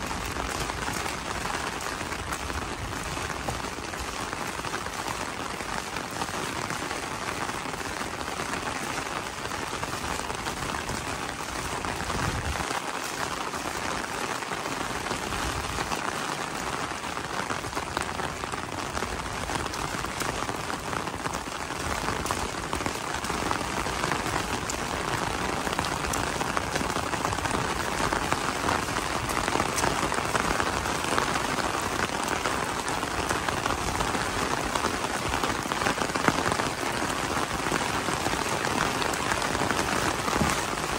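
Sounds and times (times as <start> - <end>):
rain on an umbrella: 0.0 - 40.9.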